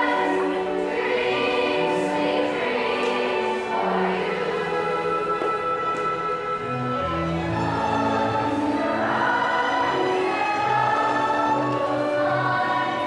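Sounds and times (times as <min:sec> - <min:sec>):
chorus singing slow song: 0:00.0 - 0:13.0.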